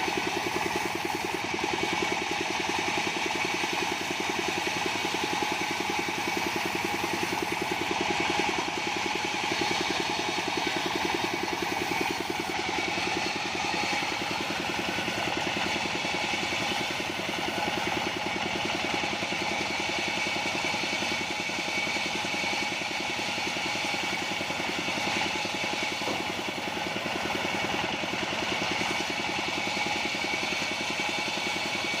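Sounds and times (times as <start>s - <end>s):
sawmill engine running: 0.0s - 32.0s.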